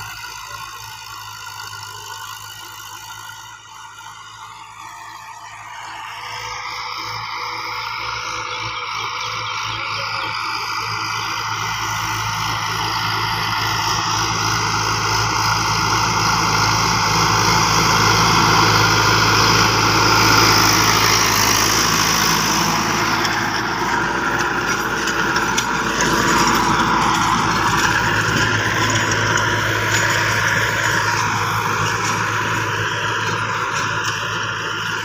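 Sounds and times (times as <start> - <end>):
diesel tractor engine tilling soil: 0.0 - 35.0.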